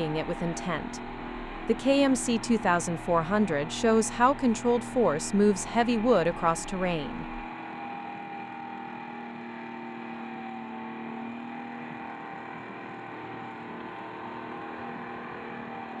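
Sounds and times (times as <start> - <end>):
heavy machine engine humming: 0.0 - 16.0.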